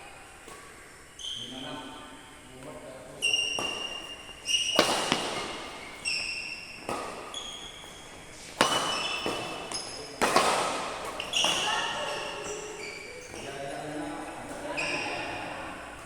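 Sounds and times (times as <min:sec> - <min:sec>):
sports shoes squeaking: 0:00.0 - 0:16.0
sharp impacts ringing in hall: 0:02.8 - 0:16.0.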